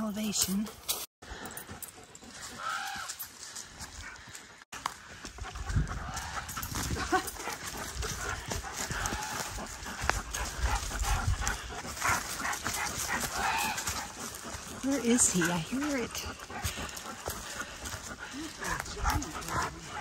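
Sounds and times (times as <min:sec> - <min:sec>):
footsteps on dry leaves: 0:02.1 - 0:20.0.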